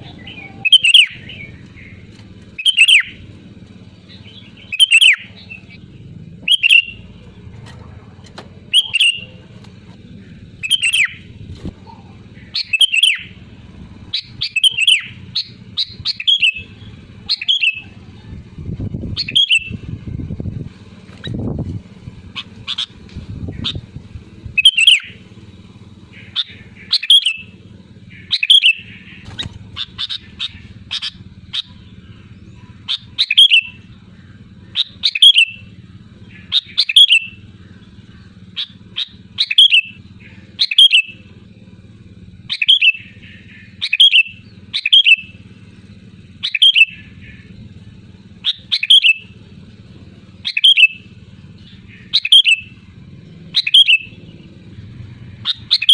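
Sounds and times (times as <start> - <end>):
bird calling: 0.0 - 18.4, 19.1 - 19.9, 20.9 - 55.9
steady low hum: 0.0 - 55.9.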